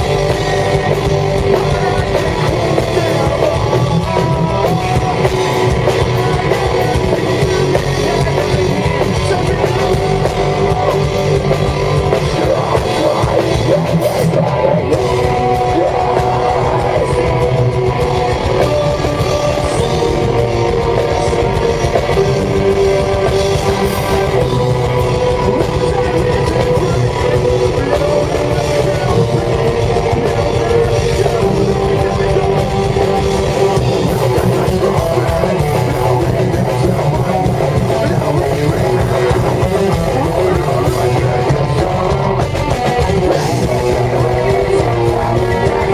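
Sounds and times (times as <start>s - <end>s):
distorted electric guitars: 0.0s - 45.9s
drum kit: 0.0s - 45.9s
vocals: 0.0s - 45.9s.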